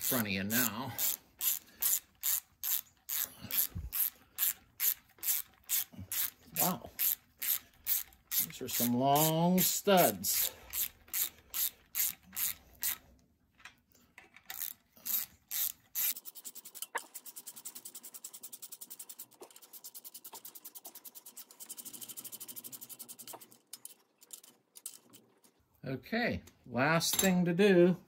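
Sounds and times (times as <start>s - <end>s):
hand ratchet clicking: 0.0s - 13.0s, 14.3s - 25.2s.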